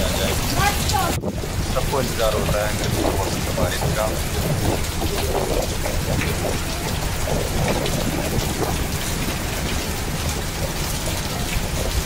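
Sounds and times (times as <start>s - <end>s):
heavy rain on pavement: 0.0s - 12.0s
low rumble: 0.0s - 12.0s.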